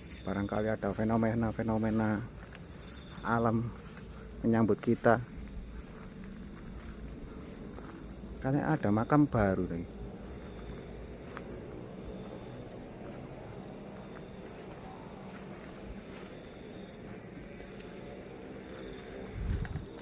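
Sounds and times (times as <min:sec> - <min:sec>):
high steady insect tone: 0:00.0 - 0:20.0
insects trilling: 0:00.0 - 0:20.0.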